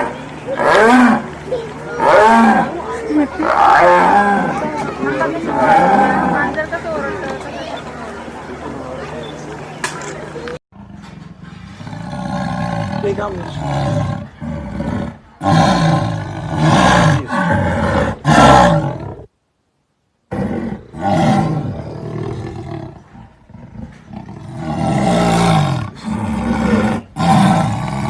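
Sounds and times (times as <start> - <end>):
jaguar roaring: 0.0 - 6.6, 10.8 - 19.3, 20.3 - 28.0.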